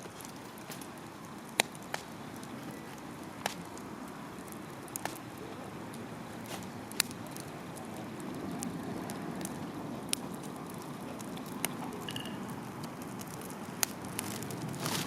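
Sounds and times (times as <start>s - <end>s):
campfire burning: 0.0s - 15.0s
wood popping in fire: 0.0s - 15.0s.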